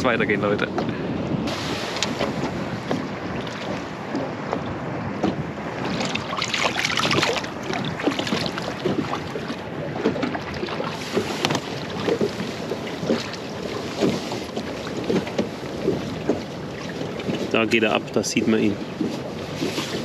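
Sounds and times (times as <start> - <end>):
water slapping against boat hull: 0.0 - 20.0
wind buffeting microphone: 0.0 - 20.0.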